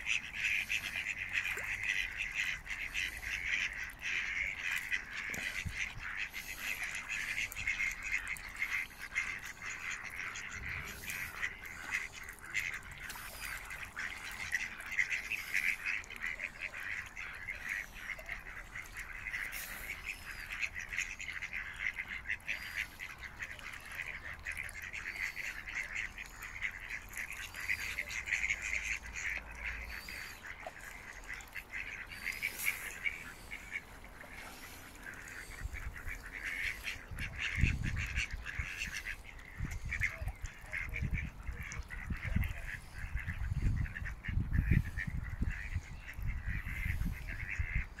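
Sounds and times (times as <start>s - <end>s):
ducks quacking: 0.0s - 48.0s.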